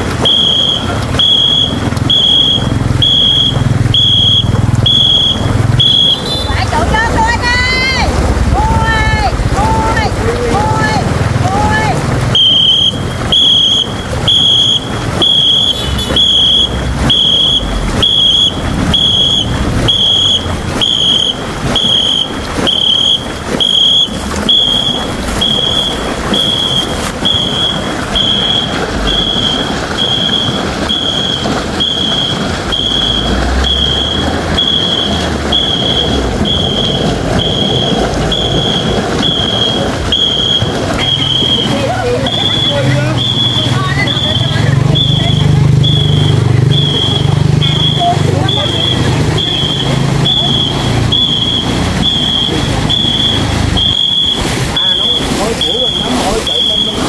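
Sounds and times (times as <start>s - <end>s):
paddles splashing water: 0.0s - 57.0s
whistle short blasts: 0.2s - 6.7s, 12.3s - 57.0s.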